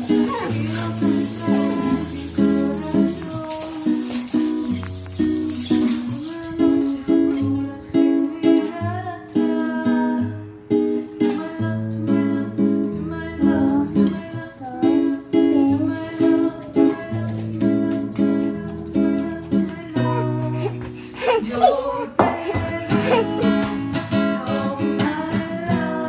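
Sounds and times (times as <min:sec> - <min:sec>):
person singing: 0:00.0 - 0:04.7, 0:05.7 - 0:10.3, 0:11.3 - 0:26.0.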